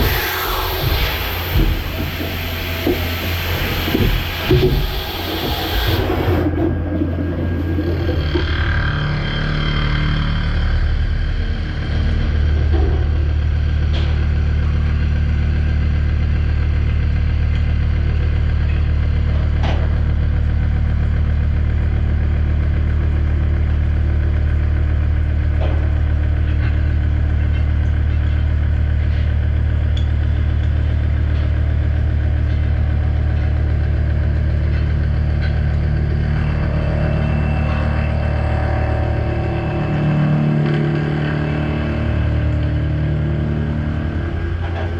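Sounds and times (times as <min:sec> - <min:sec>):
machining center humming: 0:00.0 - 0:23.3, 0:27.9 - 0:44.9.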